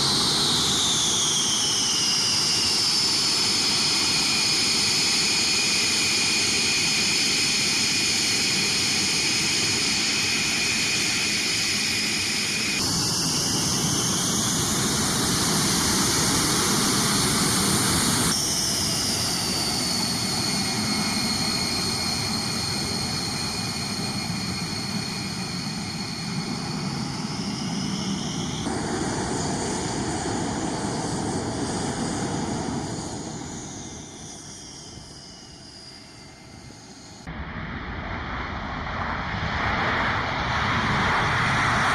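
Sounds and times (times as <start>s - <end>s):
jet engine roar with high whine: 0.0s - 41.9s.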